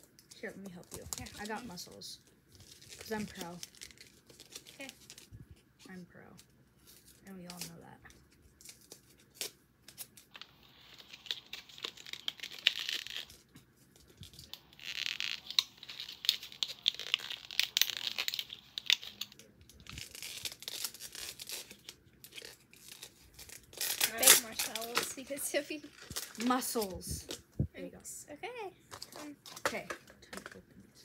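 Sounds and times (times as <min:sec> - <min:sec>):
plastic packaging crackling: 0:00.0 - 0:05.4, 0:06.8 - 0:27.6.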